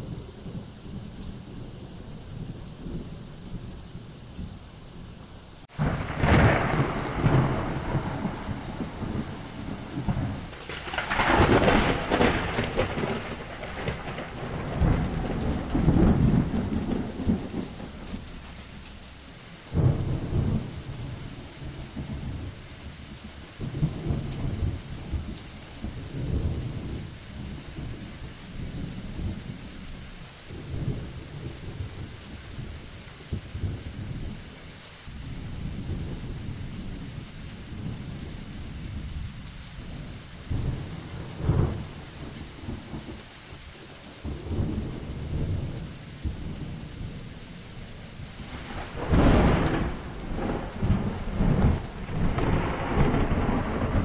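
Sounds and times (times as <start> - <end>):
steady rain: 0.0 - 54.0
thunder claps and rumbles: 5.7 - 34.4, 35.1 - 54.0.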